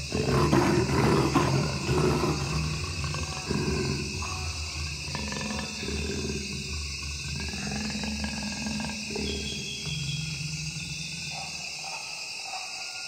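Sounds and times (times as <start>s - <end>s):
steady low hum: 0.0s - 11.6s
large wild animal calls: 0.0s - 12.2s.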